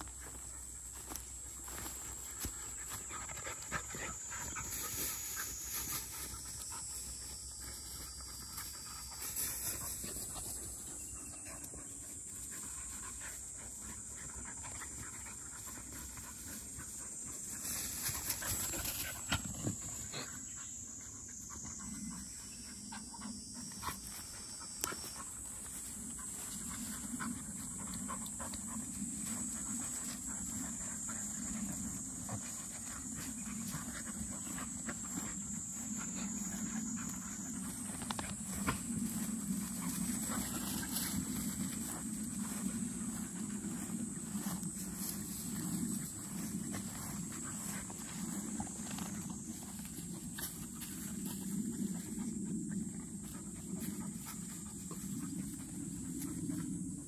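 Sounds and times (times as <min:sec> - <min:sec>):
puppies scuffling in grass: 0:00.0 - 0:20.2, 0:23.5 - 0:57.0
dogs panting: 0:00.0 - 0:57.0.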